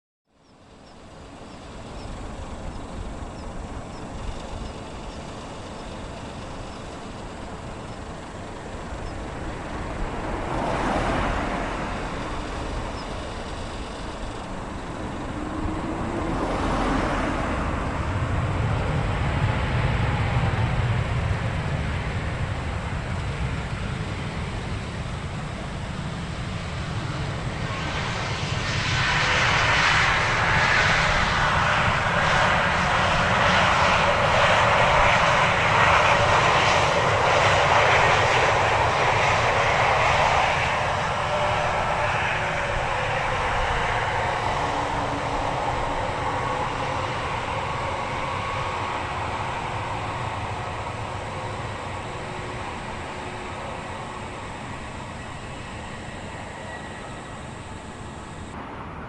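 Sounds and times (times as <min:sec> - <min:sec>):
gliding whine: 0:00.4 - 0:21.1, 0:21.7 - 0:58.8
jet engines running: 0:00.4 - 0:59.0.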